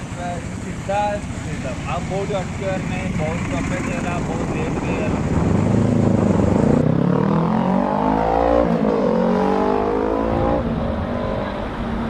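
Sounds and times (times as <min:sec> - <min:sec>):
road and wind noise: 0:00.0 - 0:12.0
motorcycle engine accelerating: 0:01.3 - 0:12.0.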